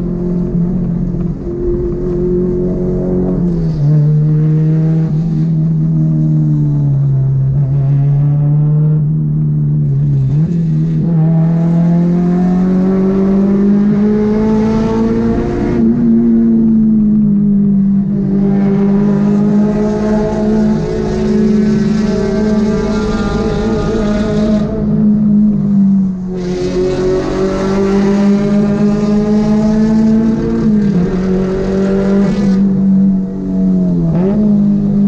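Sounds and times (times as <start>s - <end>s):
sports car engine at high revs: 0.0s - 35.0s.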